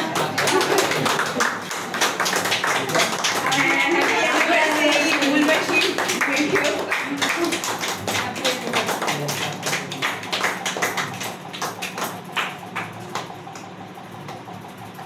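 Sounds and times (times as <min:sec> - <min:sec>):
group clapping in time: 0:00.0 - 0:14.5.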